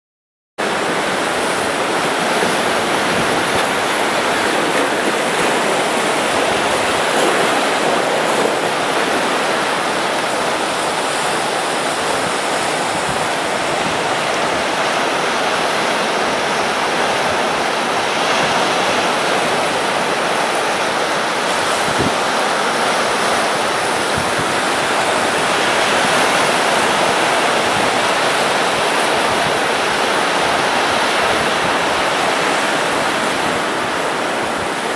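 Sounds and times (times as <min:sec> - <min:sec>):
seawater washing and foaming: 0:00.6 - 0:34.9
waves breaking on rocky shore: 0:00.6 - 0:34.9.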